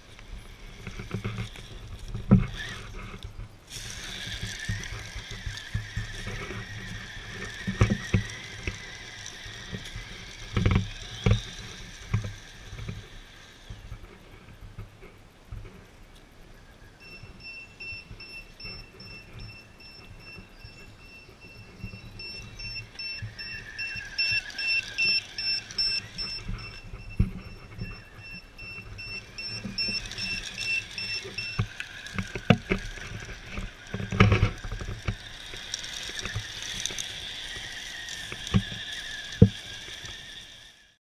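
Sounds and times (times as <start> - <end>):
electric motor whining: 0.0 - 14.6, 17.0 - 41.0.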